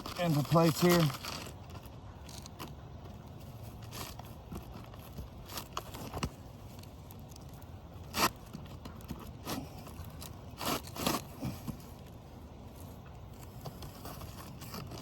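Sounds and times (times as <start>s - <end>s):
shingle scraping and rustling: 0.0s - 15.0s.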